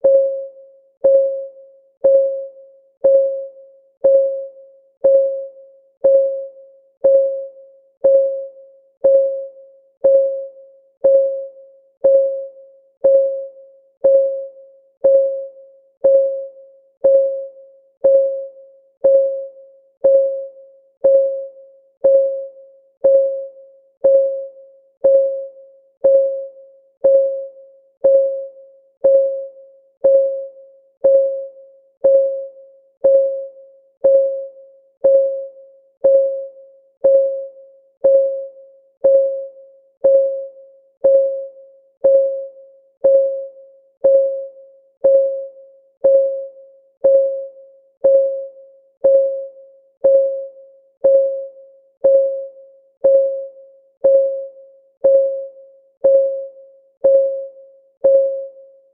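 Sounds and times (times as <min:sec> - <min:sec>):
countdown timer ticking: 0:00.0 - 0:58.6.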